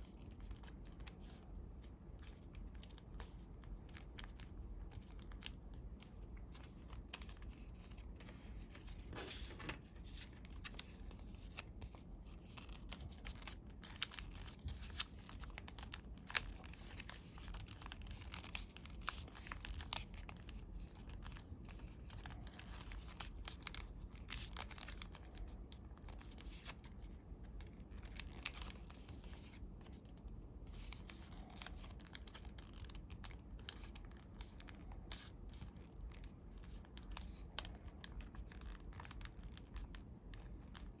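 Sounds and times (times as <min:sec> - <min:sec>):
paper rustling and crinkling: 0:00.0 - 0:41.0.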